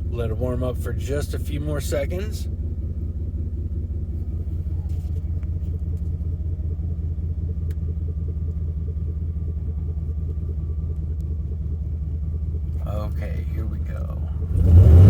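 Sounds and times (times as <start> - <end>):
pickup engine idling: 0.0 - 15.0.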